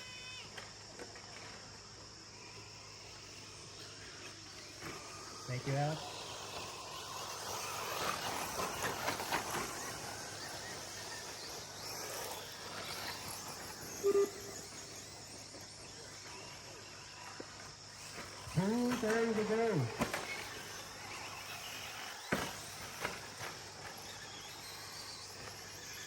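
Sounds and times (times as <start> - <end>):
rc trucks motors and tyres: 0.0 - 26.0.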